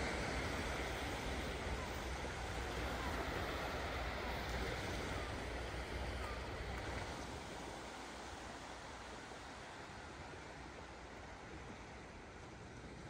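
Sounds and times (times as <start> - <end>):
waves washing onto beach: 0.0 - 13.0.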